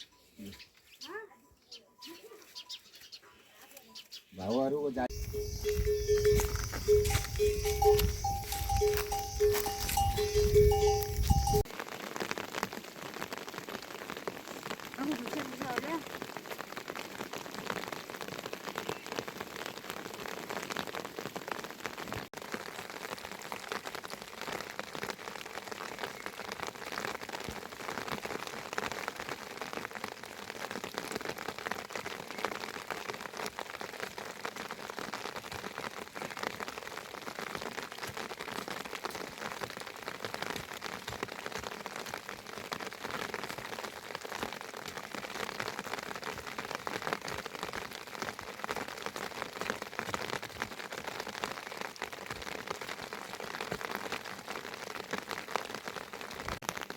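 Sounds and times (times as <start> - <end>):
heavy rain falling: 5.0 - 56.9.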